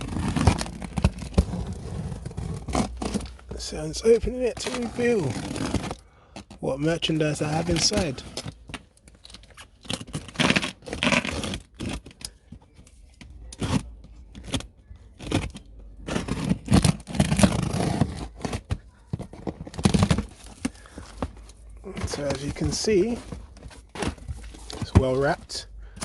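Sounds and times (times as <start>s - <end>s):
cardboard scraping and rustling: 0.0s - 8.8s, 9.6s - 12.7s, 13.5s - 26.0s.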